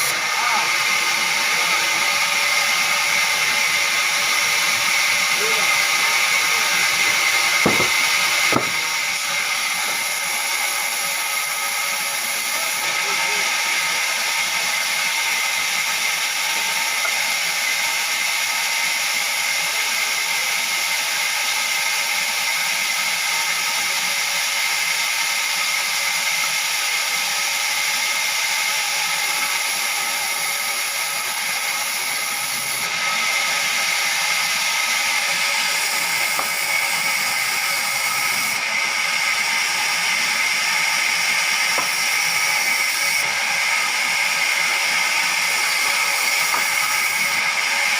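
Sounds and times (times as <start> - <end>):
sawmill machinery hiss and whine: 0.0 - 47.9.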